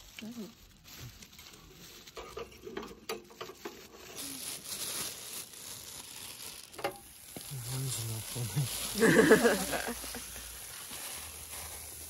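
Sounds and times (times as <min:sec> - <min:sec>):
plastic bag crinkling: 0:00.0 - 0:12.0
sizzling on charcoal grill: 0:00.0 - 0:12.0.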